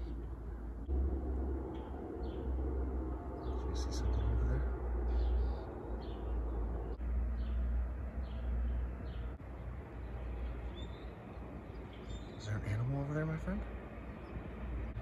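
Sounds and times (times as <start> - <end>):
small birds chirping: 1.7 - 2.6, 3.3 - 15.0.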